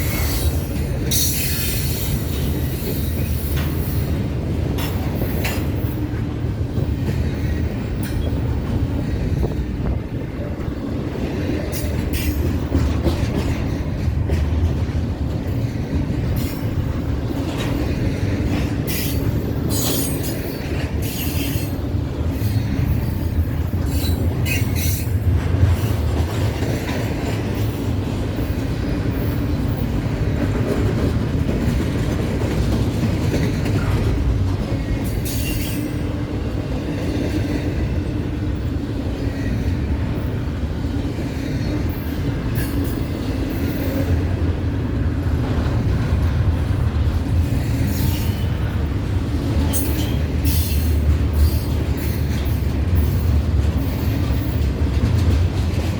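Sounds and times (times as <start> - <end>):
freight train wheels rumbling on rail: 0.0 - 55.9.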